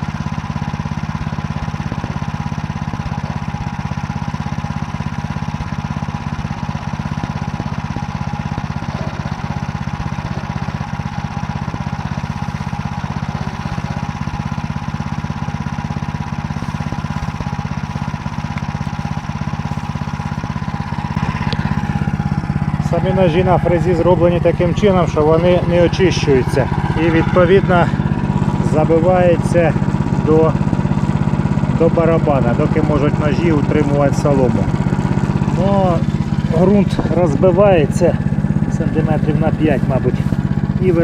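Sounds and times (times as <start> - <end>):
small engine running under load: 0.0 - 41.0.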